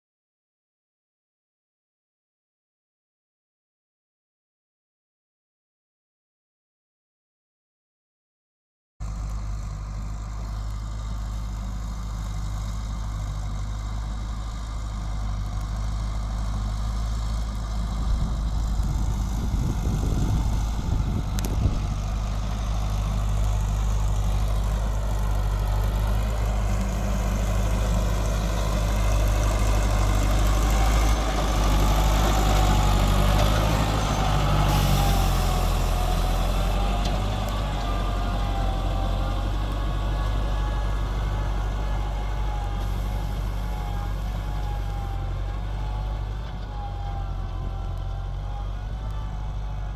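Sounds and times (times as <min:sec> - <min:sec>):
tractor engine running: 0:09.0 - 0:49.9.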